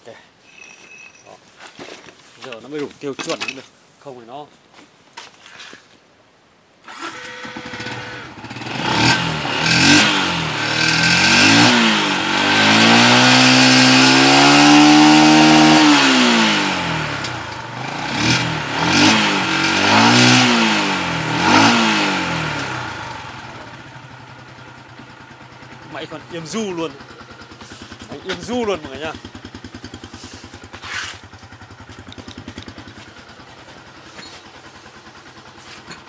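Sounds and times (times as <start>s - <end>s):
motorcycle engine revving: 6.9s - 36.0s.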